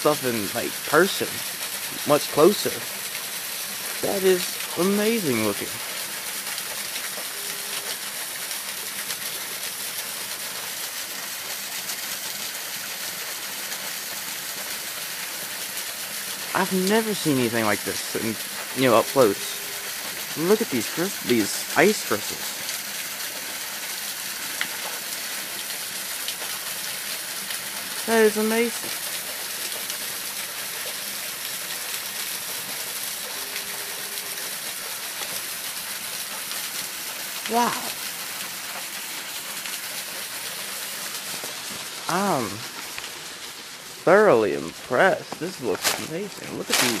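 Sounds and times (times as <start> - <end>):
water trickling under ice: 0.1 - 47.0.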